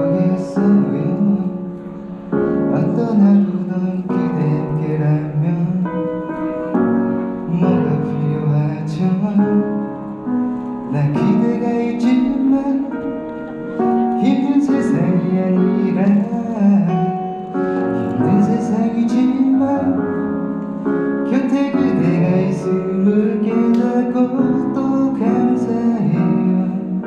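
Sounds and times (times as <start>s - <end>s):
piano accompaniment: 0.0s - 27.0s.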